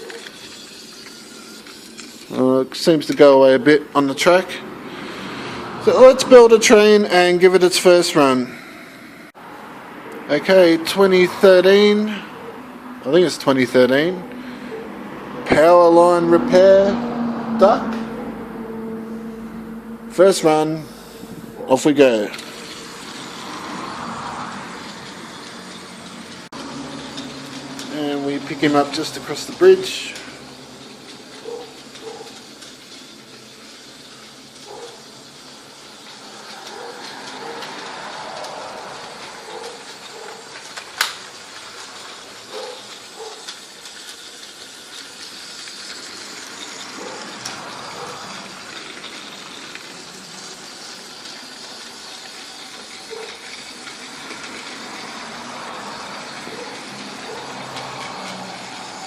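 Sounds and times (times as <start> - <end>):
toy locomotive motor whirring: 0.0 - 59.0.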